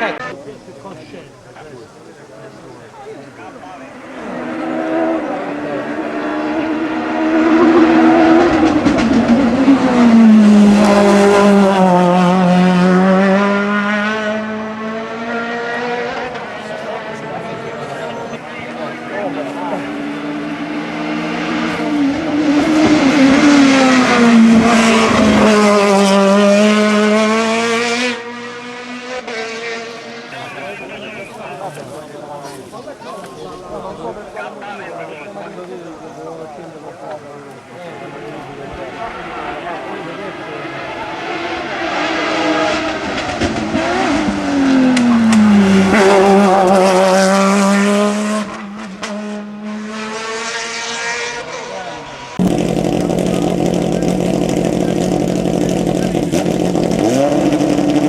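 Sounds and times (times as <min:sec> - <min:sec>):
race car engine passing at speed: 0:00.0 - 0:58.0.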